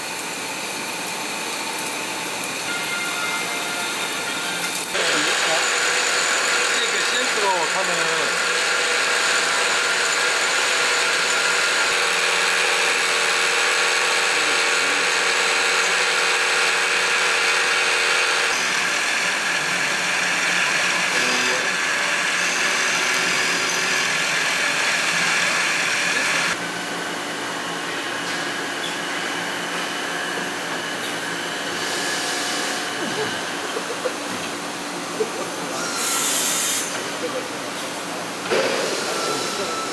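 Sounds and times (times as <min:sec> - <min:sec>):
machining whine with cutting noise: 0:00.0 - 0:39.9.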